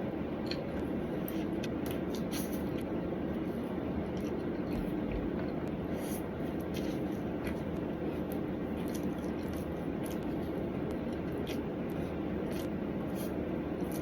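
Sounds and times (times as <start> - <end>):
room background noise: 0.0 - 14.0.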